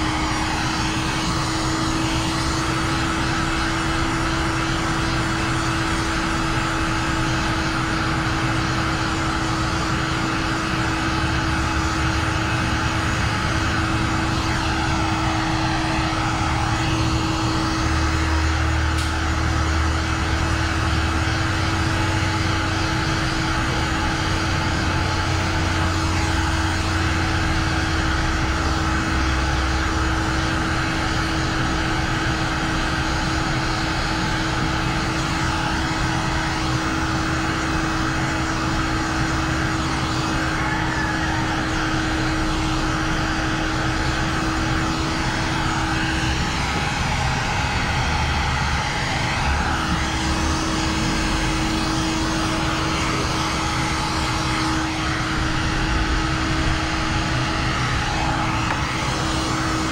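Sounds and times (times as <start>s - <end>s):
heat gun fan whir: 0.0s - 59.9s.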